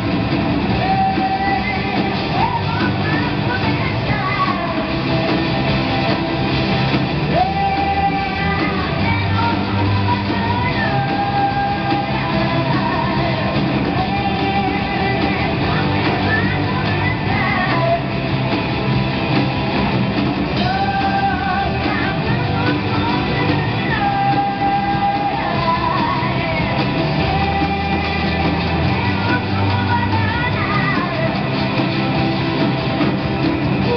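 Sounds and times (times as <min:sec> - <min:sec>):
woman singing: 0:00.0 - 0:05.7, 0:07.2 - 0:18.7, 0:20.5 - 0:32.2, 0:32.8 - 0:33.9
rock band playing: 0:00.0 - 0:33.9.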